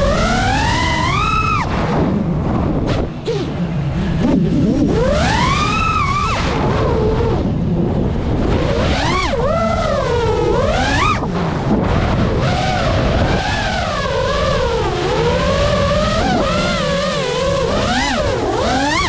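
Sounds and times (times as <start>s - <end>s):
drone motors whining: 0.0s - 19.0s
wind rumble on microphone: 0.0s - 19.0s.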